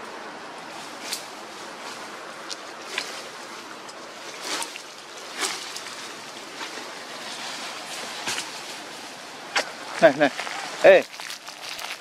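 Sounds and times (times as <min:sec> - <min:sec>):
steady background hiss: 0:00.0 - 0:12.0
footsteps crunching through dry leaves: 0:00.6 - 0:12.0.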